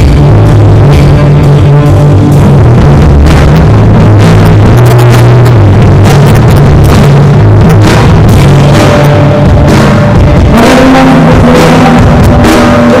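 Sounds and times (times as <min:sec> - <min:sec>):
drums and cymbals hits: 0:00.0 - 0:13.0
punk rock band playing: 0:00.0 - 0:13.0.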